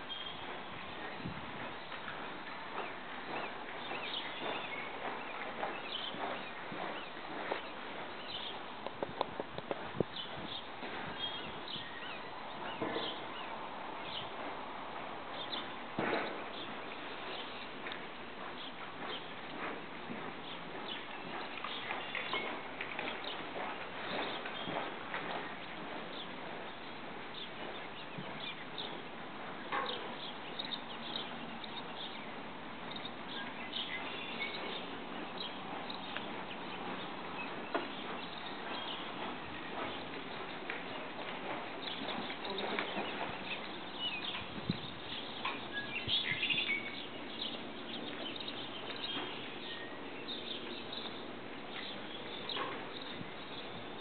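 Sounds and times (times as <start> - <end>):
outdoor background noise: 0.0 - 54.0
small birds chirping: 0.0 - 54.0.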